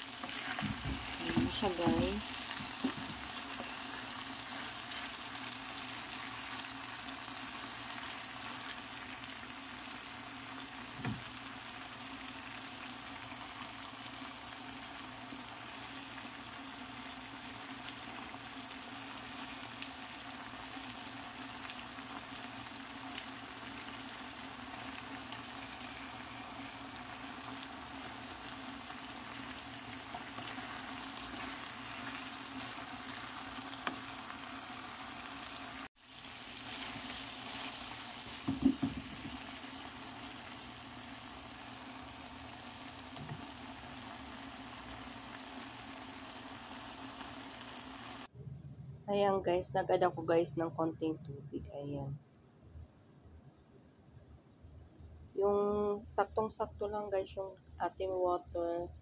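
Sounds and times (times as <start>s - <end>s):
shrimp sizzling in sauce: 0.0s - 48.3s.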